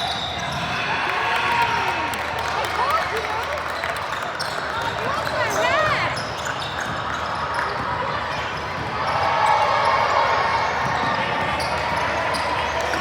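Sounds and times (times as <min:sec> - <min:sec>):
basketball bouncing on court: 0:00.0 - 0:03.5, 0:04.1 - 0:13.0
spectators chattering: 0:00.0 - 0:13.0.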